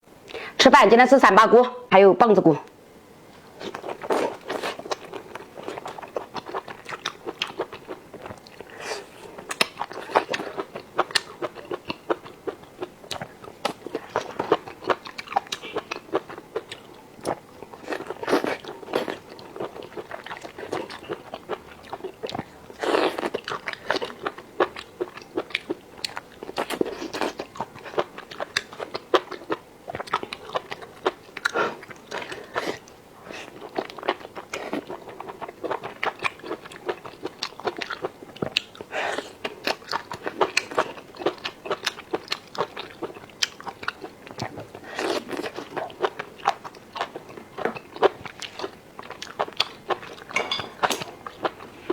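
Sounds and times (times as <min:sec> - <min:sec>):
wet chewing: 0:03.6 - 0:51.9.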